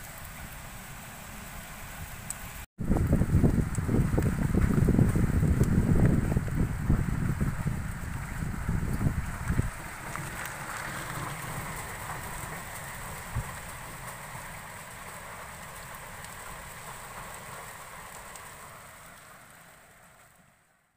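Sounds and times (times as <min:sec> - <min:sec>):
rain hissing: 0:00.0 - 0:20.9
wind rumbling on microphone: 0:01.9 - 0:18.7.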